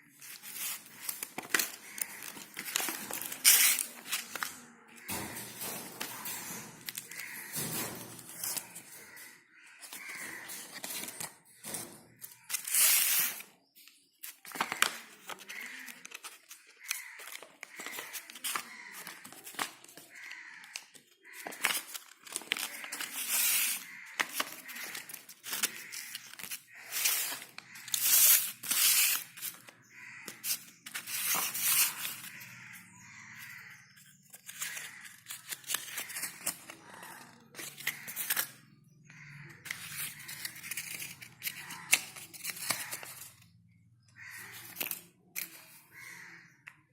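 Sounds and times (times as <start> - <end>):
paper rustling and tearing: 0.1 - 13.5, 14.2 - 32.8, 33.4 - 38.6, 39.6 - 43.5, 44.2 - 45.8.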